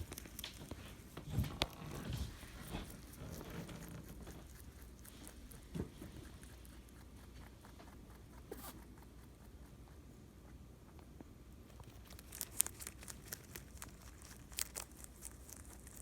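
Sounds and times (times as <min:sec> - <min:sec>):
rabbit chewing food: 0:00.0 - 0:16.0.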